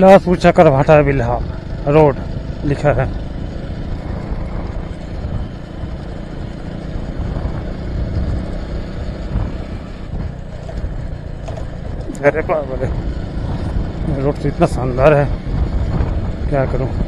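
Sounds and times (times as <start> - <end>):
motorcycle riding: 0.0 - 17.0.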